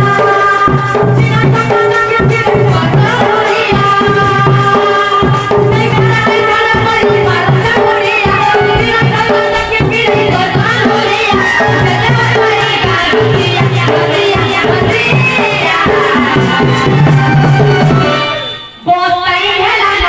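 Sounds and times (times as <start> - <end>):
barrel drum rhythm: 0.0 - 18.8
sustained accompaniment: 0.0 - 19.3
women singing into microphones: 0.0 - 20.0.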